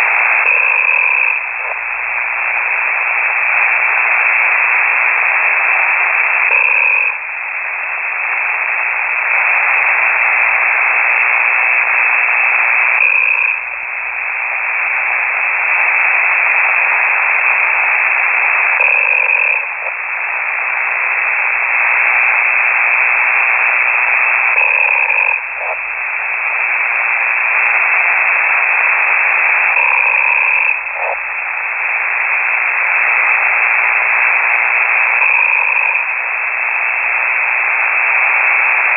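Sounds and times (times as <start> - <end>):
man snoring over radio: 0.0 - 3.3, 4.8 - 7.2, 9.2 - 13.9, 14.8 - 38.9
loud radio hiss: 0.0 - 38.9.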